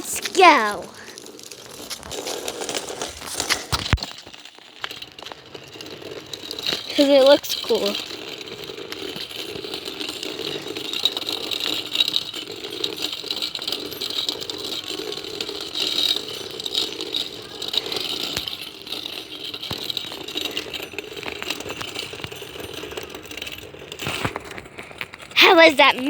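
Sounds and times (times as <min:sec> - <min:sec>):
rattling and clattering: 0:00.0 - 0:26.0.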